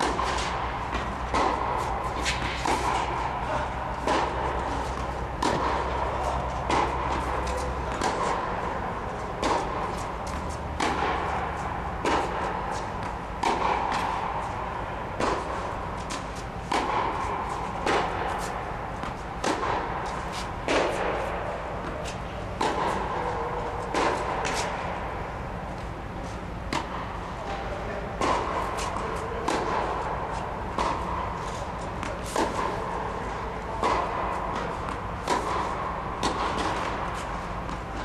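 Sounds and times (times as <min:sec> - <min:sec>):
steady low hum: 0:00.0 - 0:38.0
tennis racket hitting ball: 0:00.0 - 0:38.0.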